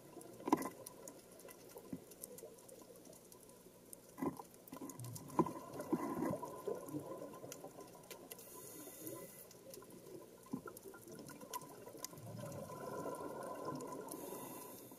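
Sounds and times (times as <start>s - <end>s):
faint steady whine: 0.0s - 14.9s
underwater clicks and crackle: 0.0s - 14.9s.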